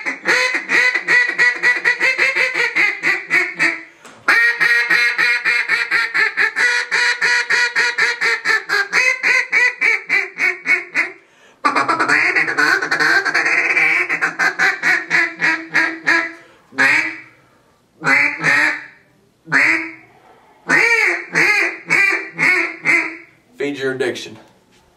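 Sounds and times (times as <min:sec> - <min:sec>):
duck call quacks: 0:00.0 - 0:17.3, 0:18.0 - 0:20.1, 0:20.7 - 0:23.4.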